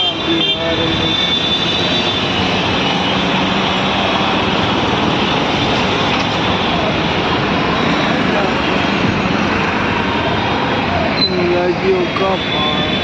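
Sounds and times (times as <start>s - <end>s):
vehicle noise rushing: 0.6s - 13.0s.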